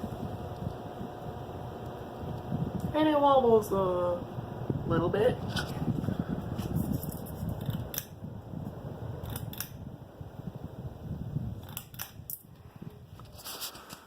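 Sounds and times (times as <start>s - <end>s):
ceiling fan fluttering rumble: 0.0s - 14.0s.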